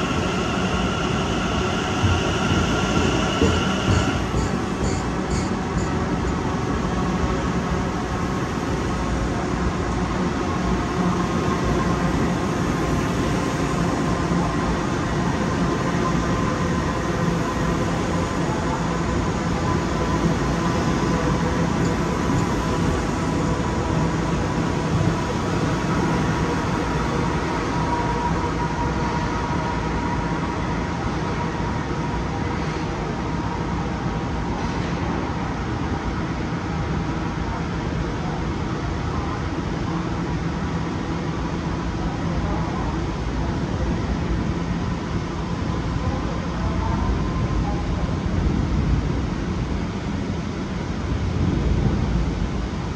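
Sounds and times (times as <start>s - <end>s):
train rumble: 0.0s - 52.9s.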